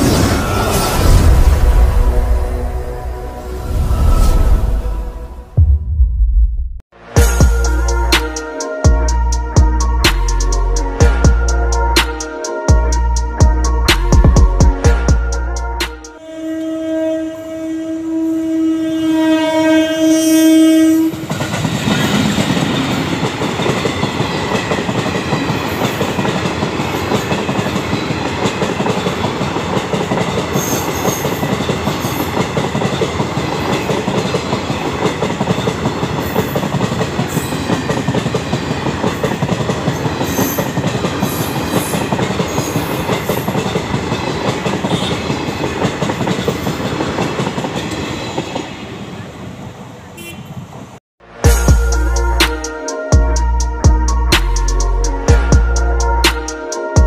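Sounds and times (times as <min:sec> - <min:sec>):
train rumbling past: 0:00.0 - 0:16.5, 0:19.0 - 0:56.2.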